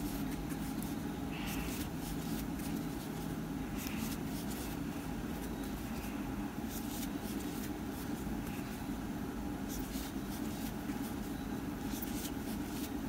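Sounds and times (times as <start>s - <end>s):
yarn scratching and rustling: 0.0s - 8.9s, 9.6s - 13.0s
steady low hum: 0.0s - 13.0s.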